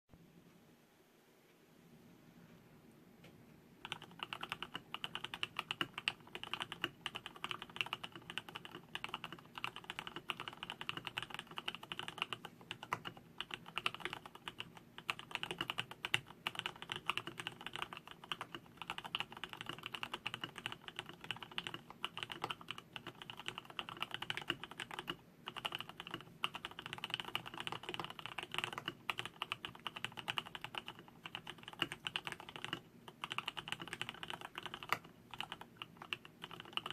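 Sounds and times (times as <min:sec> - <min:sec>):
fast mechanical keyboard typing: 0:03.8 - 0:36.9.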